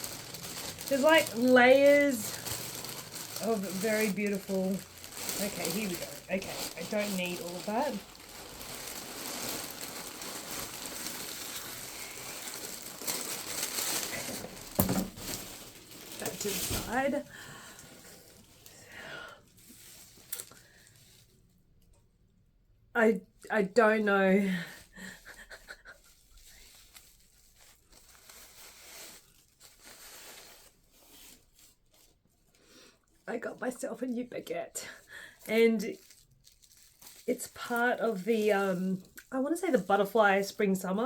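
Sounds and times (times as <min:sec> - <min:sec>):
paper wrapping rustling: 0:00.0 - 0:21.5, 0:24.7 - 0:32.6, 0:35.2 - 0:40.6.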